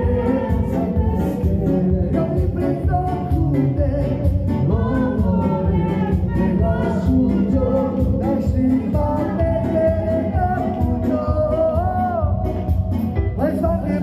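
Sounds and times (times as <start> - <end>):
band playing a steady beat: 0.0 - 14.0
man singing into a microphone: 0.0 - 14.0.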